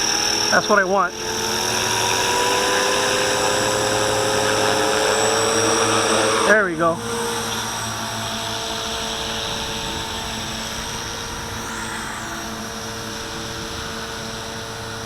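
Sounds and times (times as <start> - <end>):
rc helicopter whine: 0.0 - 15.0.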